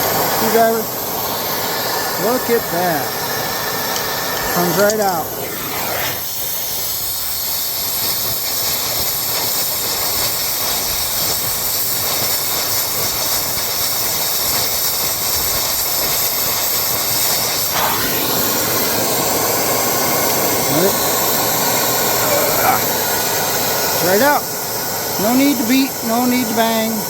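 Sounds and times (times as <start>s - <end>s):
torch flame hissing: 0.0s - 27.0s.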